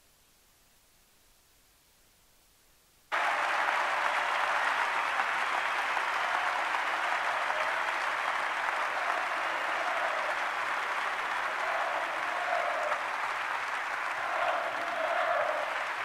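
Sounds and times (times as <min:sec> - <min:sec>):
crowd applauding: 0:03.1 - 0:16.0.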